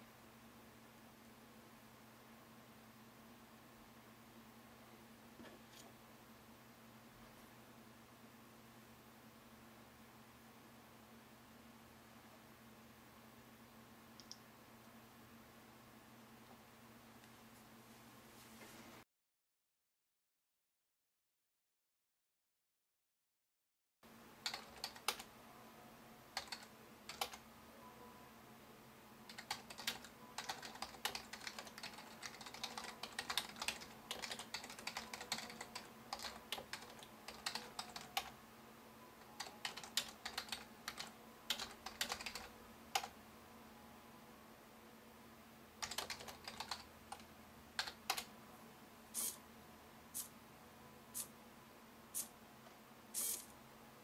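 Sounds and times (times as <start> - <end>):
faint steady hum: 0.0 - 19.0, 24.0 - 54.0.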